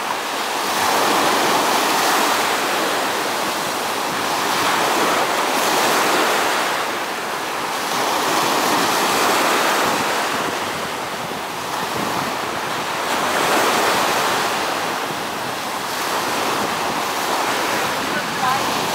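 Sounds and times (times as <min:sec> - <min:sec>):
ocean waves breaking on beach: 0:00.0 - 0:18.9.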